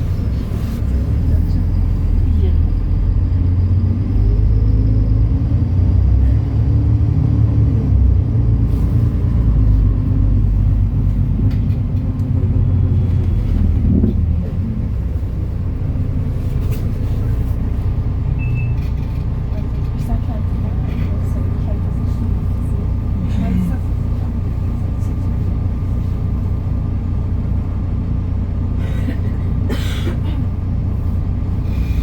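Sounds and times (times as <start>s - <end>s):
bus diesel engine droning: 0.0s - 32.0s.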